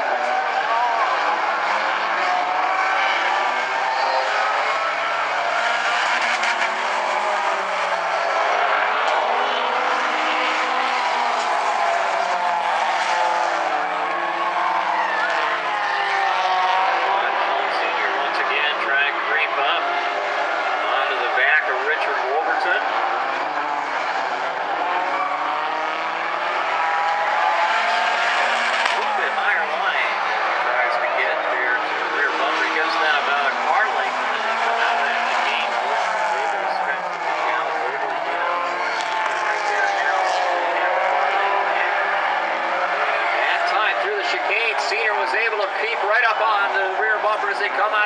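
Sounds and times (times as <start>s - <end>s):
race car engines: 0.0s - 48.0s
tyre and track noise: 1.5s - 48.0s.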